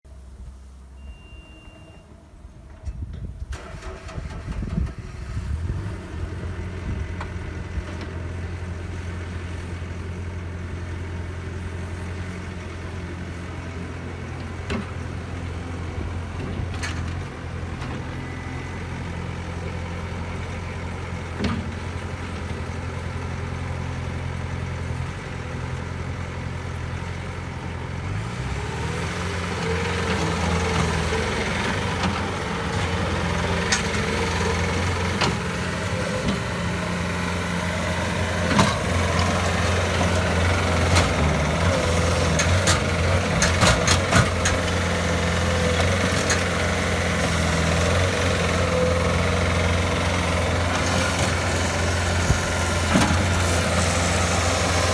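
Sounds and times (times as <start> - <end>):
diesel engine starting and idling: 0.2 - 54.9.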